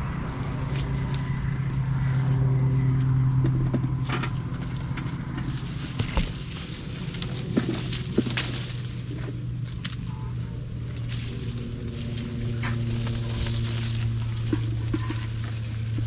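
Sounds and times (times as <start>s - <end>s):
engine humming: 0.0s - 16.0s
branches snapping and rustling: 0.5s - 16.0s.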